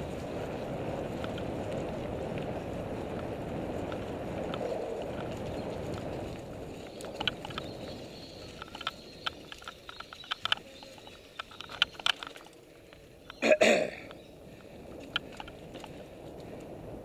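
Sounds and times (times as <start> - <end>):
bike clicks and rattles: 0.0 - 17.0
low rumble of tires on gravel: 0.0 - 17.0.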